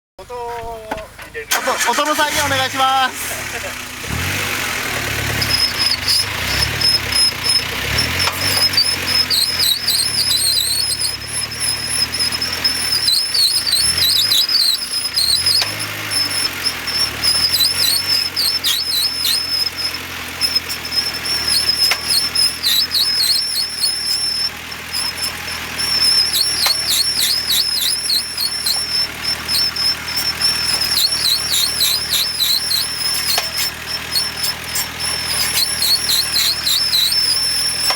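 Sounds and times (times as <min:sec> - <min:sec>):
engine running low: 0:00.2 - 0:37.9
high-pitched warbling squeal: 0:01.5 - 0:37.9.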